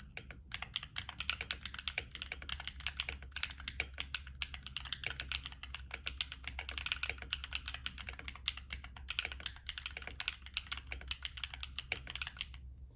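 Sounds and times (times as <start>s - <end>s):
fast typing on mechanical keyboard: 0.0s - 12.6s.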